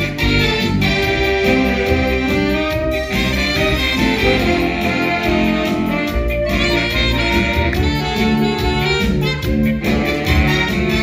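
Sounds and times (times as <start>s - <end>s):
saxophone ensemble playing: 0.0s - 11.0s
steady beat: 0.0s - 11.0s.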